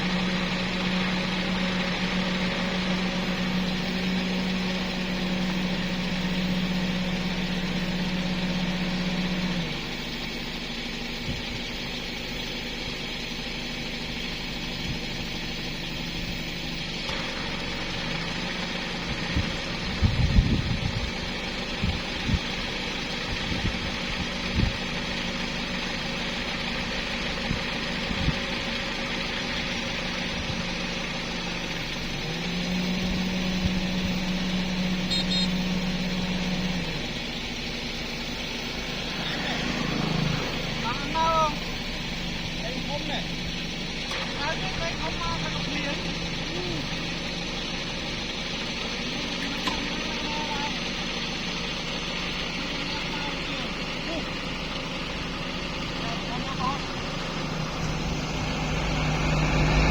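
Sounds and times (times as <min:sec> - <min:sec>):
motor running steadily: 0:00.0 - 0:59.9.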